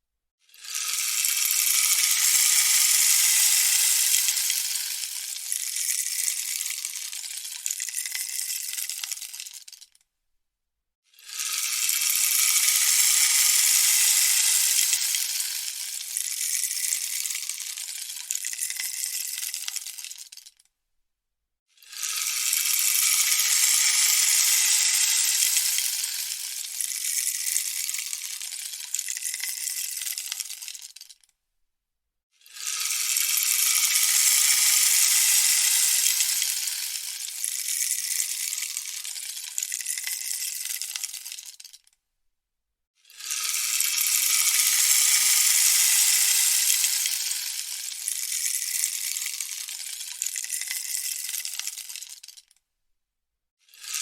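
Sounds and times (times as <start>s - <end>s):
rainstick trickling: 0.7s - 9.9s, 11.3s - 20.6s, 21.8s - 31.3s, 32.5s - 41.9s, 43.3s - 52.5s.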